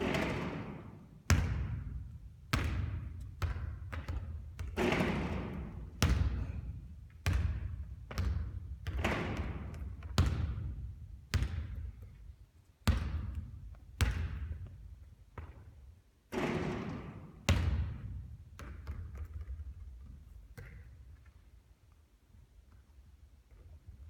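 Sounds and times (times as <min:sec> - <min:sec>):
basketball bouncing on a court: 0:00.0 - 0:12.2, 0:12.8 - 0:21.3.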